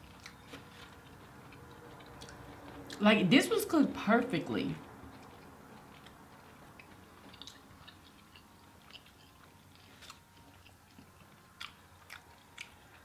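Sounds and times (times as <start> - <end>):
faint wet chewing clicks: 0.0 - 3.1, 4.8 - 13.0.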